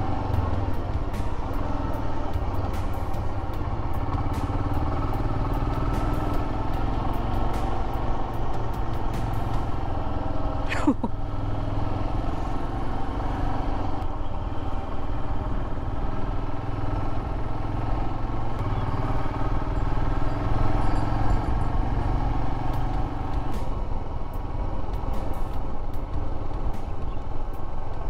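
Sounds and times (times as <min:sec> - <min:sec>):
motorcycle engine running: 0:00.0 - 0:28.0
road noise: 0:00.0 - 0:28.0.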